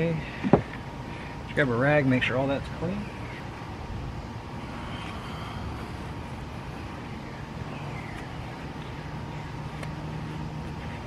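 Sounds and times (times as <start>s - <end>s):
low background rumble: 0.0s - 11.0s
low steady hum: 0.0s - 11.0s.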